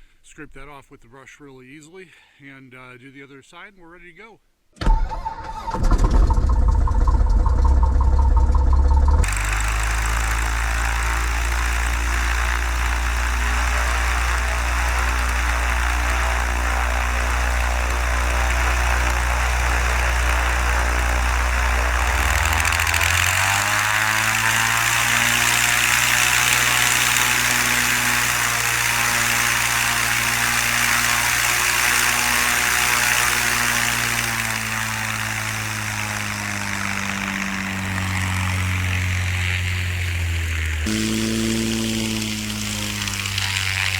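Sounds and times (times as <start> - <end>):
propeller airplane engine running: 5.3 - 43.9.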